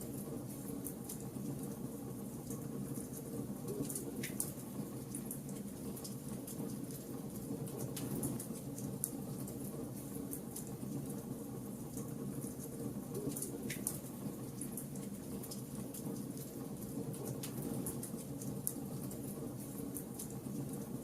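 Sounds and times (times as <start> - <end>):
wood fire crackling: 0.1 - 21.0.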